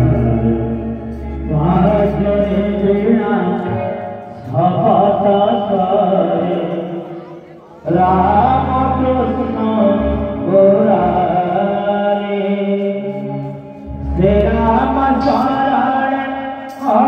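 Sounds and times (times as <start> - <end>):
musical accompaniment: 0.0 - 17.0
person singing chant-like song: 0.0 - 17.0.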